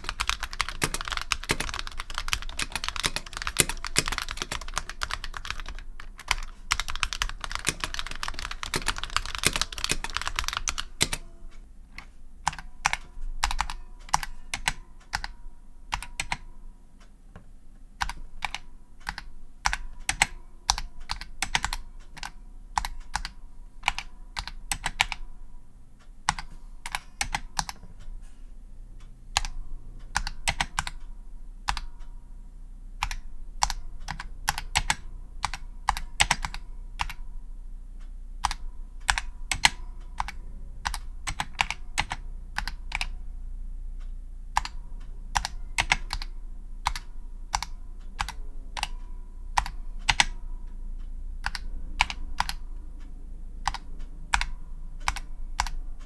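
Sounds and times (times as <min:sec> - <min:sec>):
keyboard keystroke clacks: 0:00.0 - 0:16.5, 0:17.3 - 0:25.3, 0:26.2 - 0:28.1, 0:29.3 - 0:31.1, 0:33.0 - 0:37.3, 0:38.4 - 0:43.2, 0:44.5 - 0:50.4, 0:51.4 - 0:52.8, 0:53.6 - 0:55.8.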